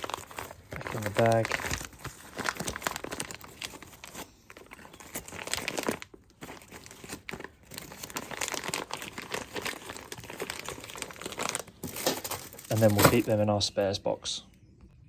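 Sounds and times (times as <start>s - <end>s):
bag crinkling and rustling: 0.0s - 13.6s.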